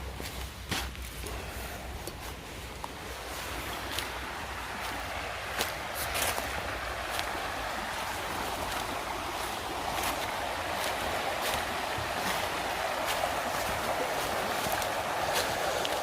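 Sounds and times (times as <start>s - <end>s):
river water rushing: 1.1s - 16.0s.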